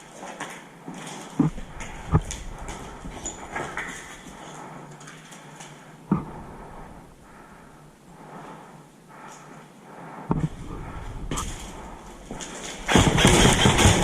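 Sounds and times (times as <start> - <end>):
soft uneven breathing: 0.0 - 12.9
rustling of movement: 0.0 - 14.0.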